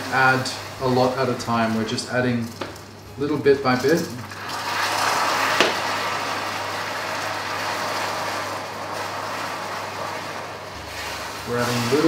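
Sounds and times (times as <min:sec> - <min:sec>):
caramel sizzling in a saucepan: 0:00.0 - 0:12.0.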